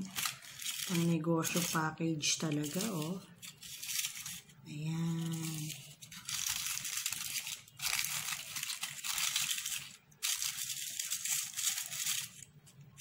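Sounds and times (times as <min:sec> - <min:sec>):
paper candy cups crinkling: 0:00.0 - 0:13.0.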